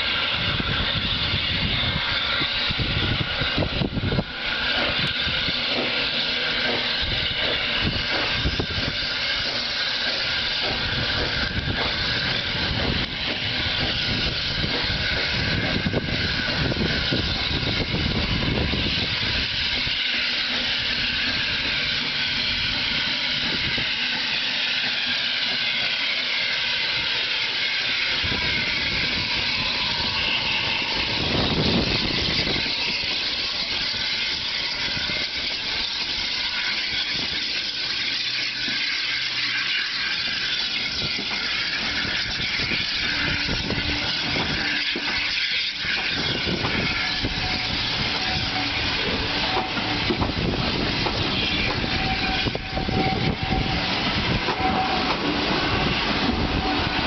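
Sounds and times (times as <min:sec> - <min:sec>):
hiss of steam: 0:00.0 - 0:57.0
steam locomotive exhaust chuffing: 0:00.0 - 0:57.0.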